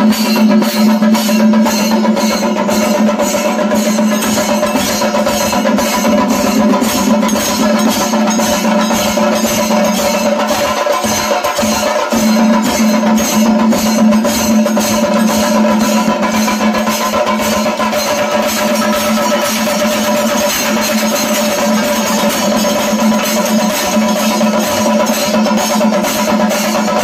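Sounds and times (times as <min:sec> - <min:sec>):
cymbals: 0:00.0 - 0:27.0
drums beating: 0:00.0 - 0:27.0.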